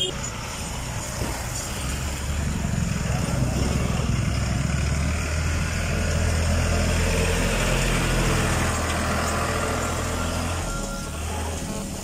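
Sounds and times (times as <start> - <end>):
heavy vehicle engines idling: 0.0 - 12.0.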